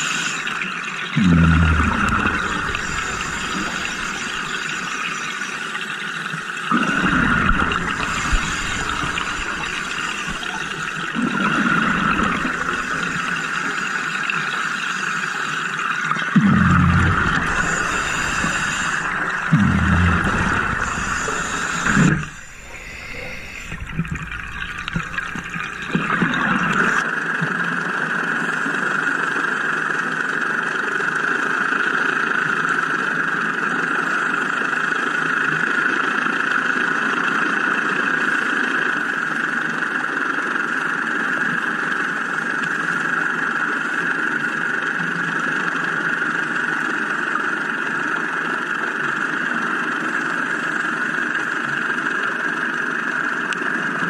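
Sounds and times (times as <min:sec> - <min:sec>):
engine drone underwater: 0:00.0 - 0:54.0.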